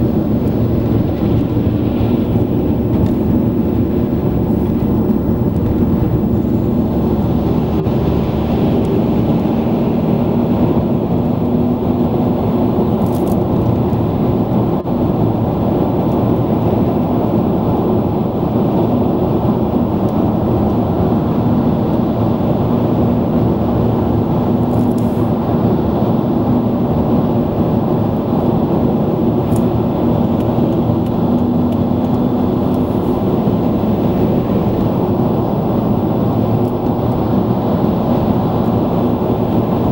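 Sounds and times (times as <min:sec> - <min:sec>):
car engine and tyre road noise: 0:00.0 - 0:39.9.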